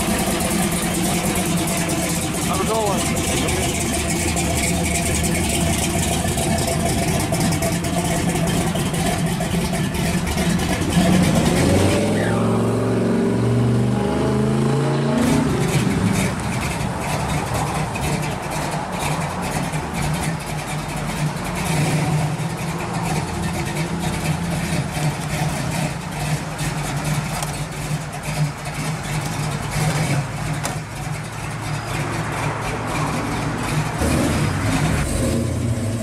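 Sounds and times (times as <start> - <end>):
car engine passing slowly: 0.0 - 36.0.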